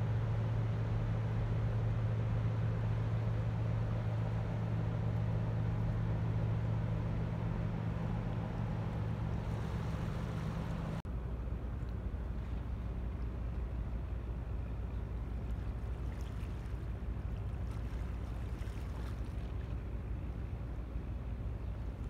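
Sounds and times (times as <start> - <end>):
ship diesel engine drone: 0.0 - 22.0
wind and water noise: 0.0 - 22.0.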